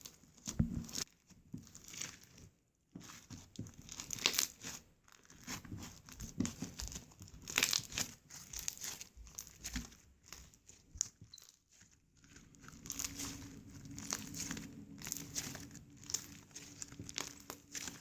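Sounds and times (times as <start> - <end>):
slime crackling and popping: 3.1 - 18.0.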